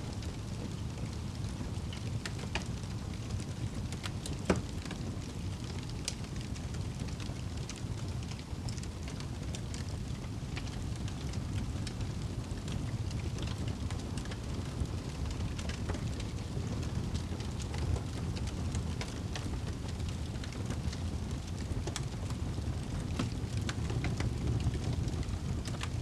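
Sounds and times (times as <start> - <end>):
wood fire crackling and popping: 0.1 - 26.0.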